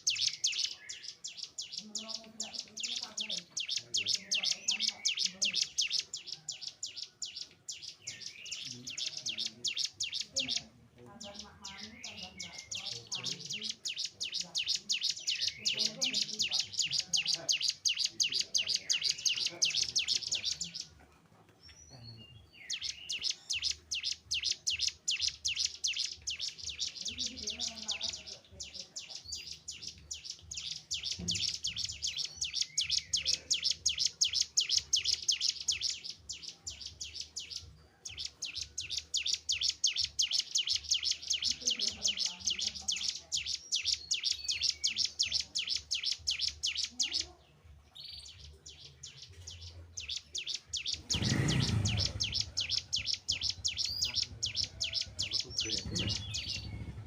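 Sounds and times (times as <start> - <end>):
bird singing rapid high chirps: 0.0 - 20.9, 21.7 - 57.0.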